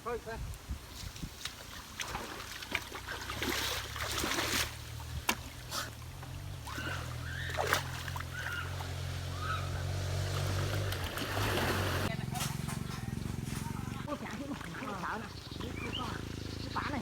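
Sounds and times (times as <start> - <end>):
water splashing: 1.3 - 17.0
low engine hum: 2.8 - 17.0.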